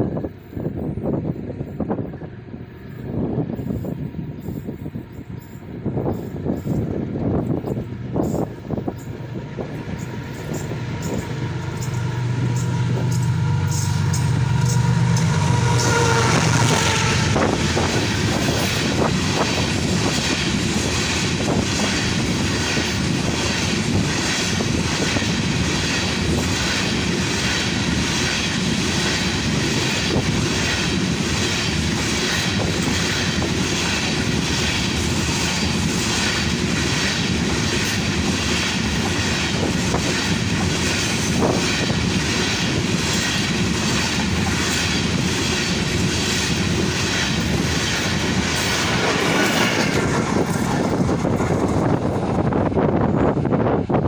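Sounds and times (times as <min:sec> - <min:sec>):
train wagons rumbling past: 0:00.0 - 0:54.0.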